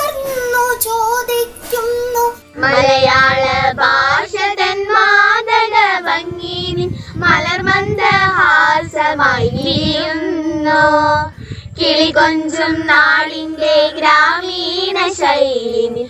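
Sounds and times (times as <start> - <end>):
girl singing solo: 0.0 - 16.0
group of girls singing: 0.0 - 16.0.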